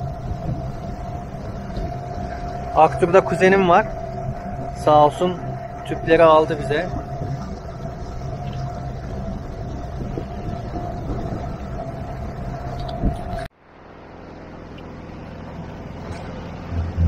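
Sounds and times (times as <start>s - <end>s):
outboard motor droning: 0.0s - 17.0s
water rushing past hull: 0.0s - 17.0s
wind: 0.0s - 17.0s.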